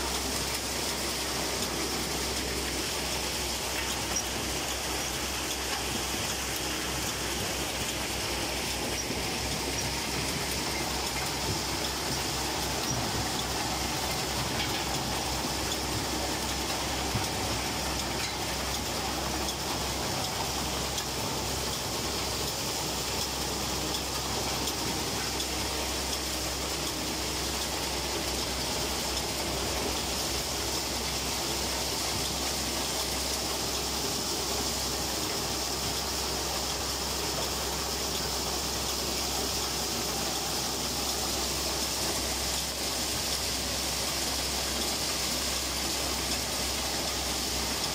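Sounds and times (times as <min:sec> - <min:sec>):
harvester running: 0:00.0 - 0:47.9.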